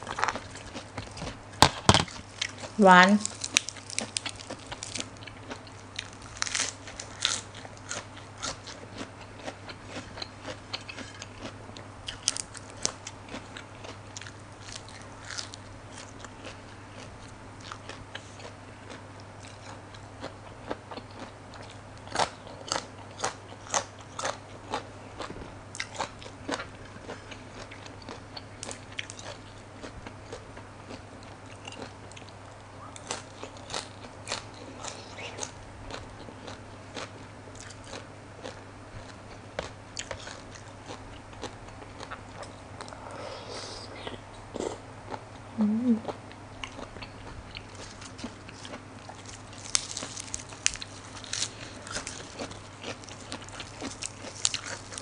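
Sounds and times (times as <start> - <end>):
crunching and chewing vegetables: 0.0 - 43.2, 44.0 - 55.0.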